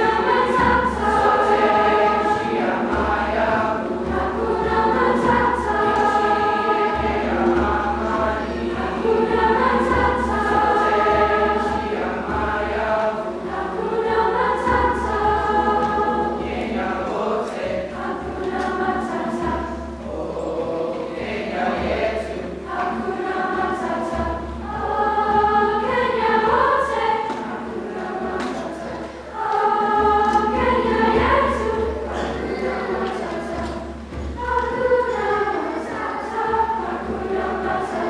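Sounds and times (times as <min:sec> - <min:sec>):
choir singing in harmony: 0:00.0 - 0:38.0.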